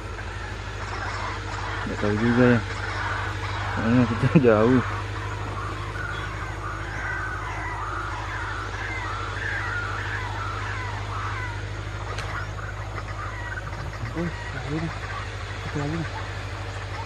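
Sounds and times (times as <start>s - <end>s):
birds warbling: 0.0s - 17.0s
steady low hum: 0.0s - 17.0s.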